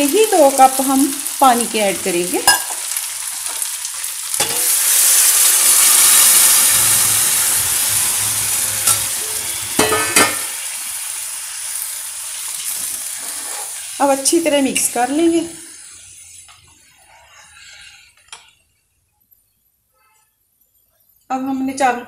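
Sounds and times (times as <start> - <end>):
water sizzling in hot oil: 0.0 - 18.7.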